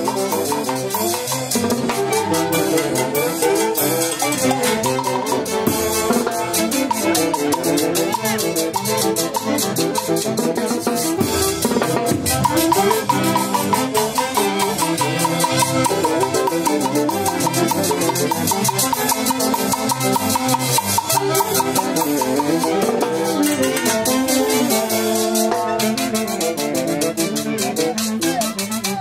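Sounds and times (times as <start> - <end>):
folk orchestra playing dance tune: 0.0 - 29.0.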